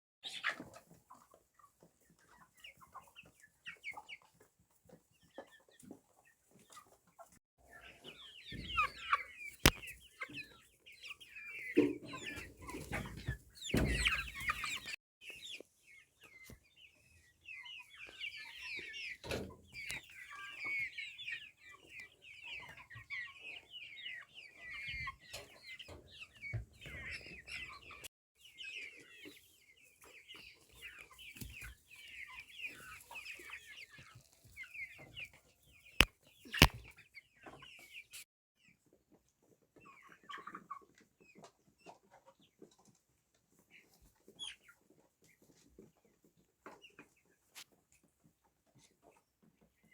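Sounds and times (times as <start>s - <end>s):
chickens clucking: 0.2s - 49.9s.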